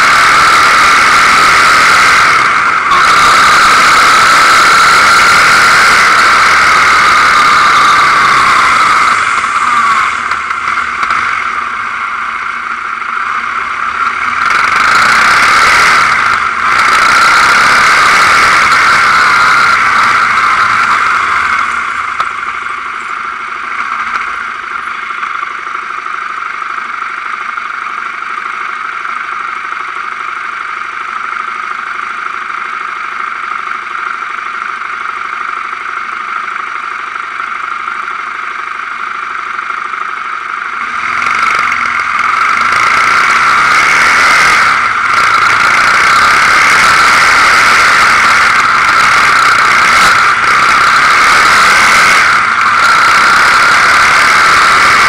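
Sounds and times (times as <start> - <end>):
quad bike engine: 0.0 - 55.0.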